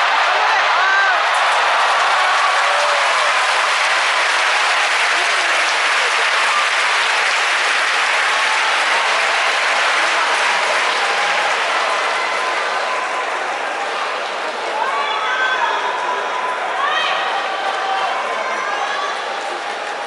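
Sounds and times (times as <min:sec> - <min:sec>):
crowd applauding: 0:00.0 - 0:14.8, 0:16.1 - 0:20.0.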